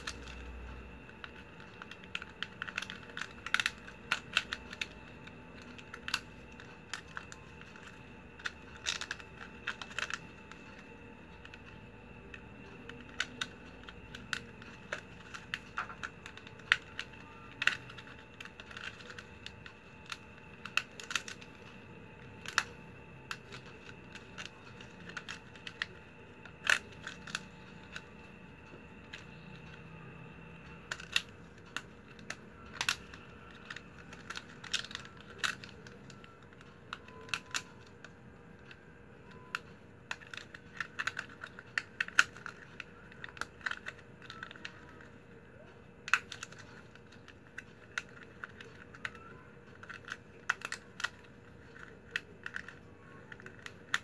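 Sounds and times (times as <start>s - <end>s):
faint steady hum: 0.0s - 54.0s
plastic strips clicking and crinkling: 0.0s - 54.0s.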